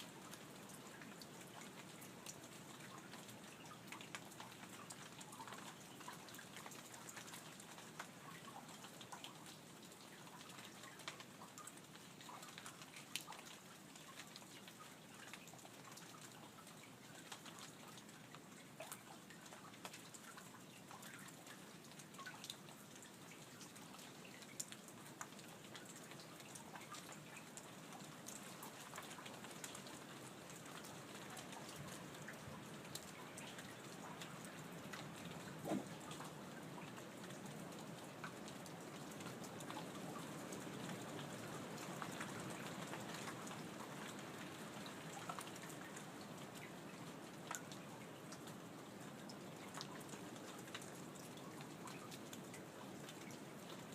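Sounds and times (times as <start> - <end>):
light rain falling: 0.0 - 53.9
water drips ticking: 0.0 - 53.9.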